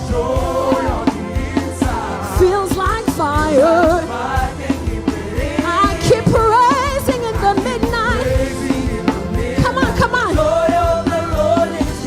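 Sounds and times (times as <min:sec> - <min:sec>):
drums: 0:00.0 - 0:12.0
gospel band playing: 0:00.0 - 0:12.0
singers with vibrato: 0:00.0 - 0:12.0.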